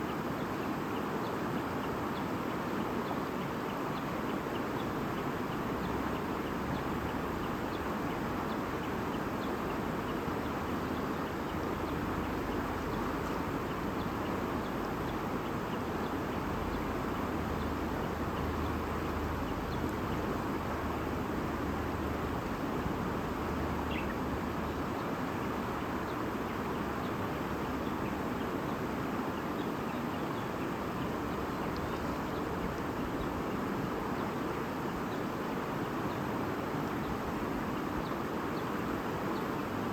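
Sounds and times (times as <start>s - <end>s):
stream babbling: 0.1s - 39.9s.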